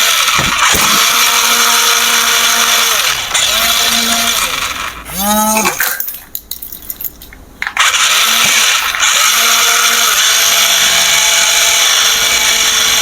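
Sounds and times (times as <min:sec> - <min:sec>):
toy motor whining: 0:00.0 - 0:05.9, 0:07.7 - 0:13.0.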